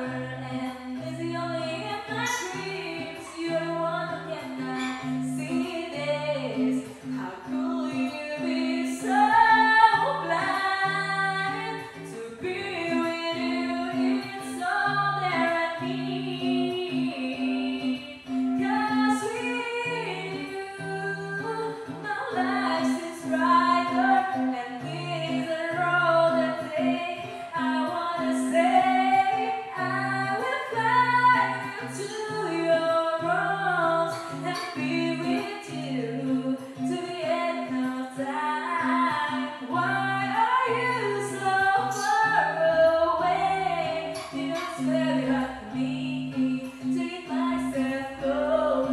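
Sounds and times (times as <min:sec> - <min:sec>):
woman singing: 0:00.0 - 0:48.9.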